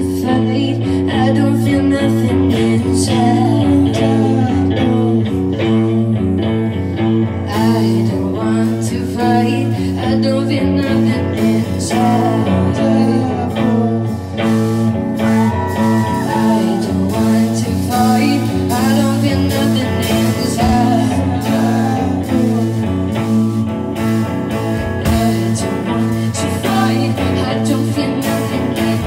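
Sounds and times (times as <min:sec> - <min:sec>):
bass guitar: 0:00.0 - 0:29.0
drums: 0:00.0 - 0:29.0
electric guitar: 0:00.0 - 0:29.0
woman singing: 0:00.0 - 0:29.0.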